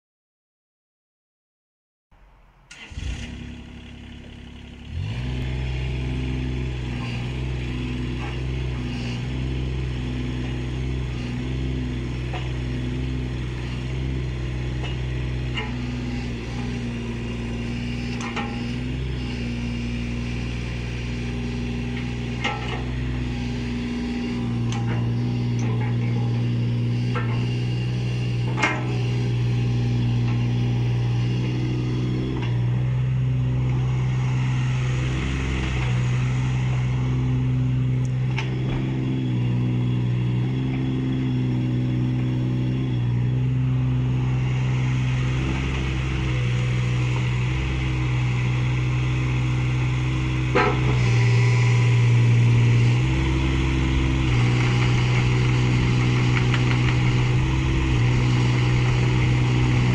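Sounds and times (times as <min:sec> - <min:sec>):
mini excavator diesel engine: 0:02.2 - 0:59.9.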